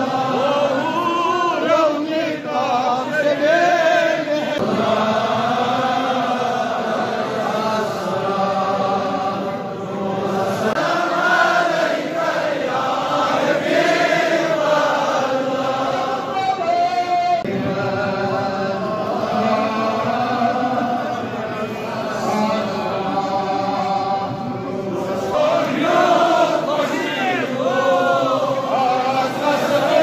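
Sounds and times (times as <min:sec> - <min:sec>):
crowd of men chanting: 0:00.0 - 0:30.0.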